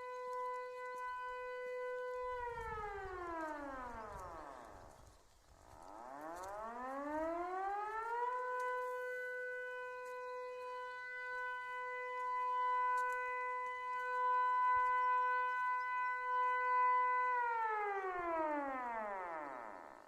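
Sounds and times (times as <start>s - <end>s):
civil defence siren: 0.0s - 20.0s.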